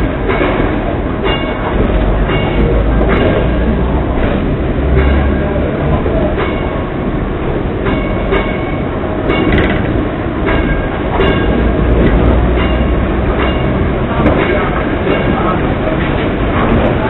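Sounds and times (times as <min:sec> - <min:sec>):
tram clacks: 0:00.0 - 0:17.0
tram wheels rumbling on rails: 0:00.0 - 0:17.0.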